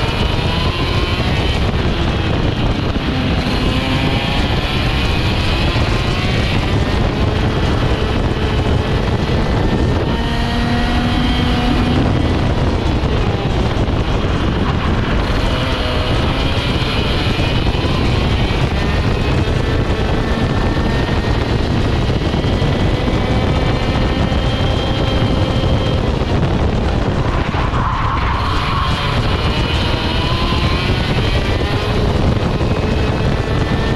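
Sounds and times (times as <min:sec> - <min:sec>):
kart engine revving: 0:00.0 - 0:33.9
wind rushing over microphone: 0:00.0 - 0:33.9.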